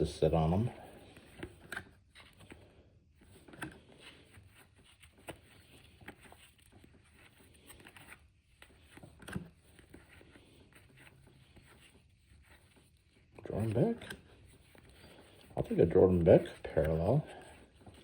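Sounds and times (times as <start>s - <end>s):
cards sliding and rustling: 0.0s - 18.0s.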